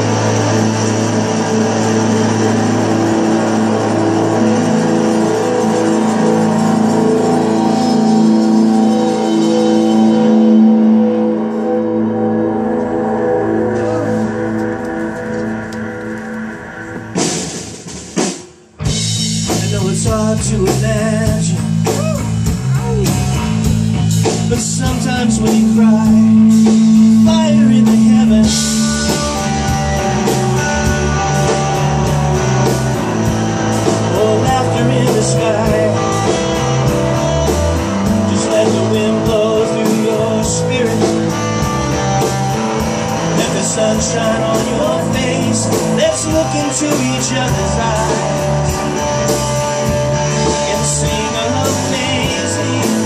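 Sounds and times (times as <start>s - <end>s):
drum kit: 0.0s - 53.0s
electric bass: 0.0s - 53.0s
electric guitar: 0.0s - 53.0s.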